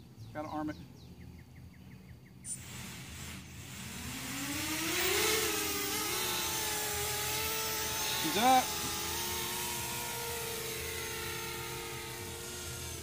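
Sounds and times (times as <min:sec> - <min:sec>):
quadcopter motors whirring: 0:02.3 - 0:13.0.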